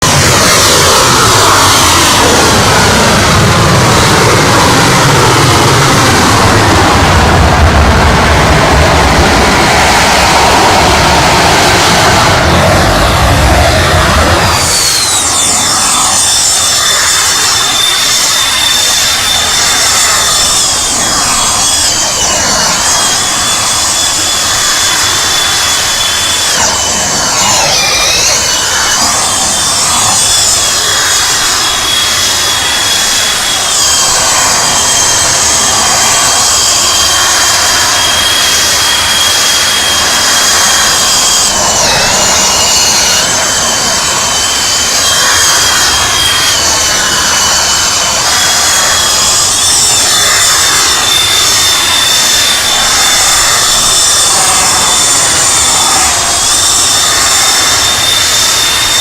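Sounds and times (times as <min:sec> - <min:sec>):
model jet engine whining: 0:00.0 - 0:59.0.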